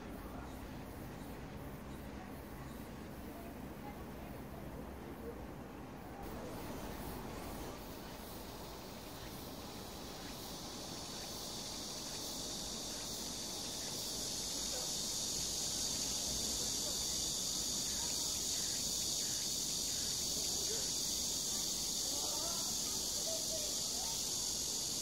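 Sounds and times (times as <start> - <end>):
cicadas singing: 0.0 - 5.3, 6.2 - 25.0.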